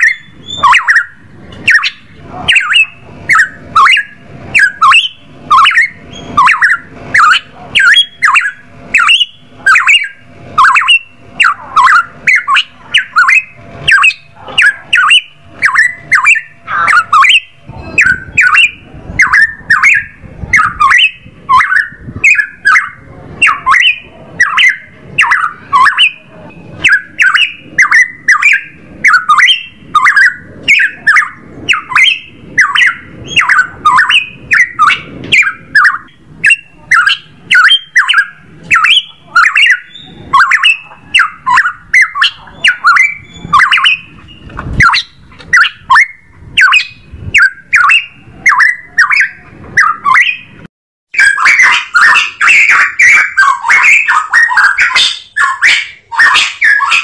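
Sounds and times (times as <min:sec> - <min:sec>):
bird calling harsh notes: 0:00.0 - 0:57.0.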